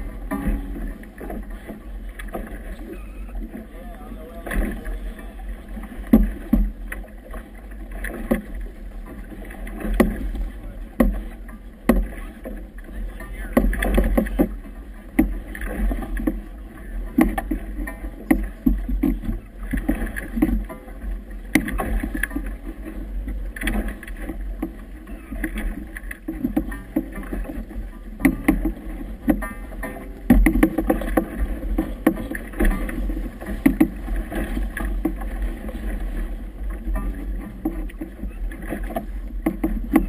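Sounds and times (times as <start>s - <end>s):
waves slapping a hull: 0.0s - 40.0s.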